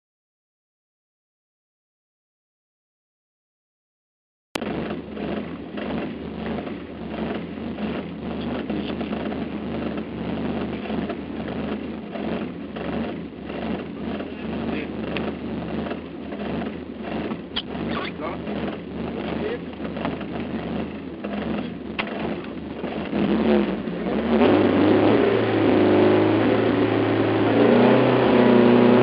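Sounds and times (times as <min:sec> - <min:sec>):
car engine idling: 0:04.6 - 0:29.0.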